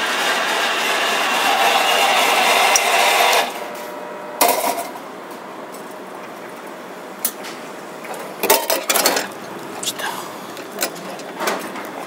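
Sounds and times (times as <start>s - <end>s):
vending machine mechanism running: 0.0s - 5.1s, 7.2s - 12.0s.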